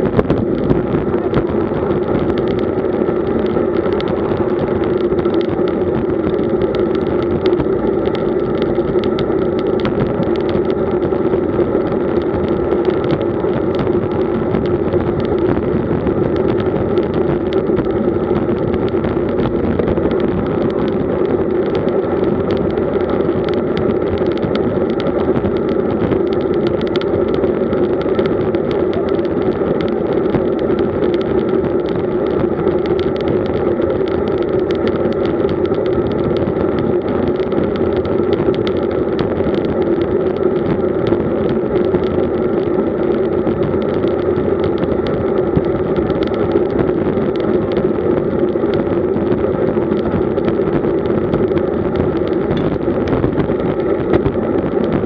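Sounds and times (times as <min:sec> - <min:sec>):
constant hum: 0:00.0 - 0:55.0
road rumble: 0:00.0 - 0:55.0
wind noise: 0:00.0 - 0:55.0.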